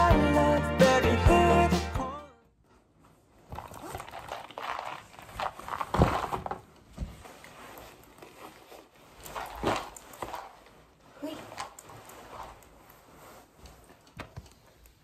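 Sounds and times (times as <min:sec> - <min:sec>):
fabric rustling and scraping: 0:02.6 - 0:15.0.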